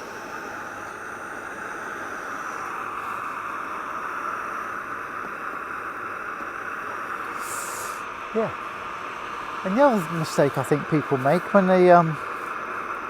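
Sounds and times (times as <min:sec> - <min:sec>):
gas stove hissing: 0:00.0 - 0:13.0.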